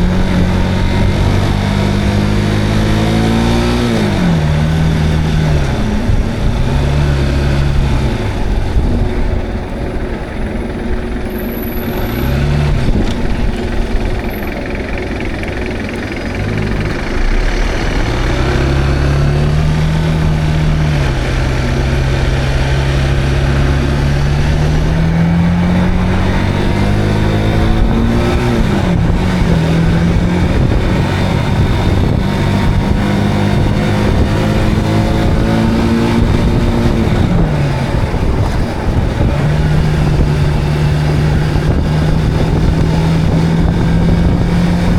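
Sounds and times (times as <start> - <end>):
motorcycle engine accelerating: 0.0 - 44.9
wind and road rush: 0.0 - 44.9.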